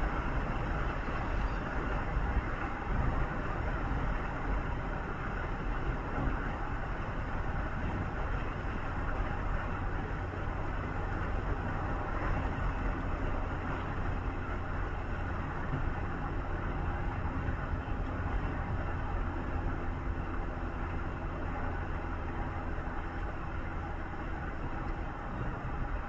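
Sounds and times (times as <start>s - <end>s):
engine and road noise inside car: 0.0s - 26.0s.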